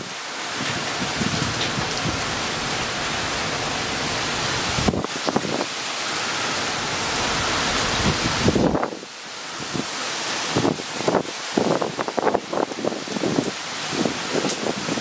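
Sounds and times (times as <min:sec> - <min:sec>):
heavy rain pouring: 0:00.0 - 0:15.0
strong wind: 0:00.0 - 0:15.0
wind gusts buffeting microphone: 0:00.5 - 0:15.0.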